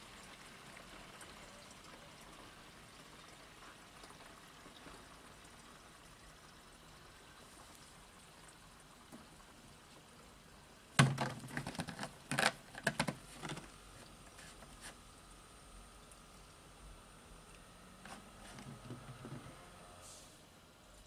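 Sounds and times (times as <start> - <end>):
liquid trickling: 0.0 - 21.0.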